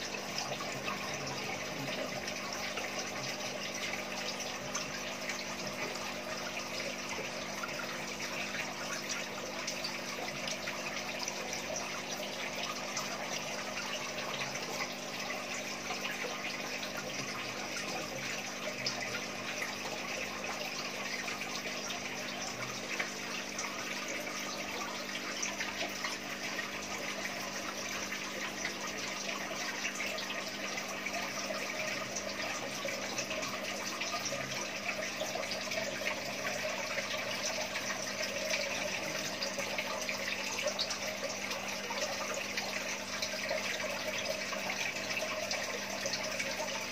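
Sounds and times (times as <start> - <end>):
water running and splashing: 0.0 - 46.9.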